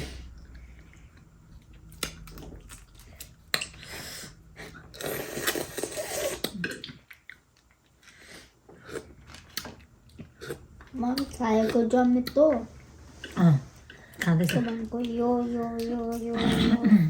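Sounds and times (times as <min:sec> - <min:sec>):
chewing: 0:00.4 - 0:16.4.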